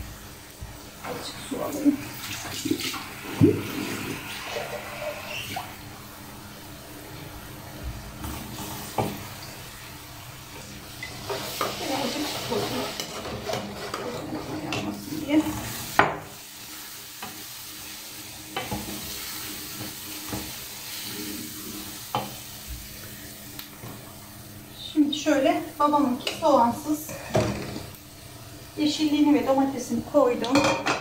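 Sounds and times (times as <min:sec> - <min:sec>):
food sizzling in a pot: 0:00.0 - 0:31.0.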